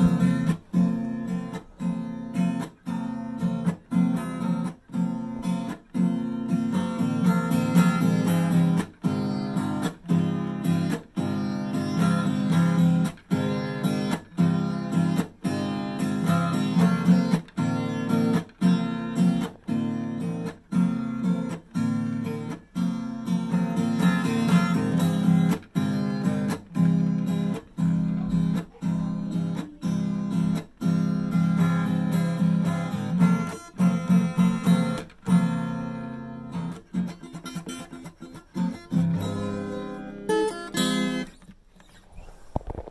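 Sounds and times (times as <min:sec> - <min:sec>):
acoustic guitar strumming: 0:00.0 - 0:42.0.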